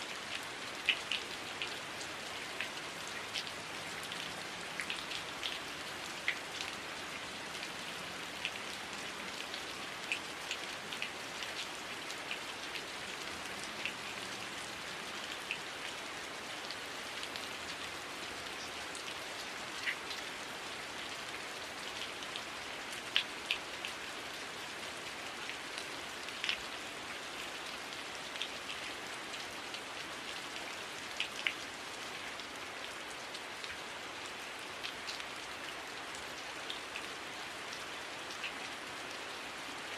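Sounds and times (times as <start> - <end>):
heavy rain: 0.0 - 39.9
raindrops ticking on surfaces: 0.1 - 39.9.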